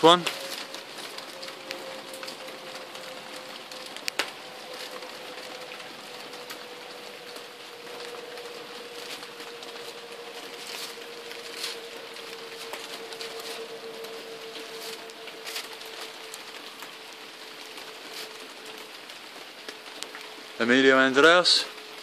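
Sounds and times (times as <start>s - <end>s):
faint hum: 0.0s - 20.7s.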